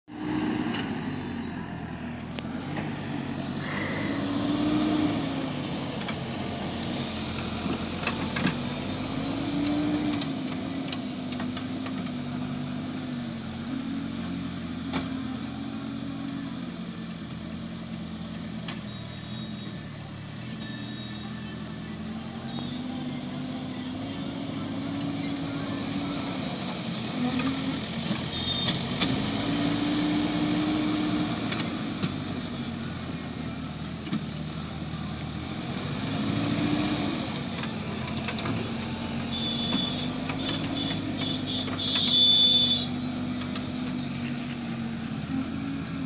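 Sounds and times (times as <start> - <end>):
diesel engine revving: 0.0 - 46.0.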